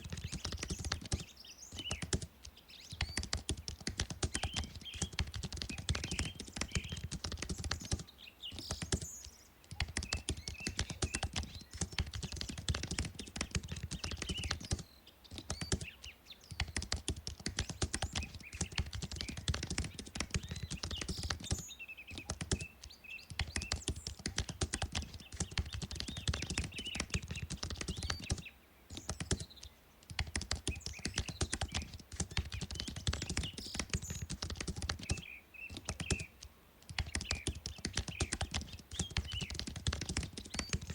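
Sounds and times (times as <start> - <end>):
fast typing on keyboard: 0.0 - 2.3, 3.0 - 22.7, 23.3 - 40.9.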